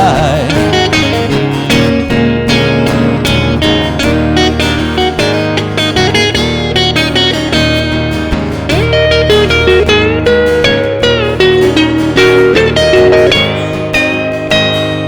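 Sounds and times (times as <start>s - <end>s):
guitar strumming chords: 0.0s - 15.0s
lead guitar bending notes: 0.0s - 15.0s.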